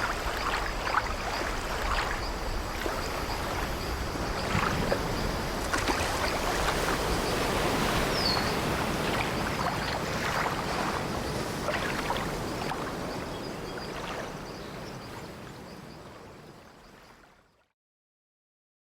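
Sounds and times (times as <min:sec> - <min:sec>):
sea waves washing against ship: 0:00.0 - 0:16.4.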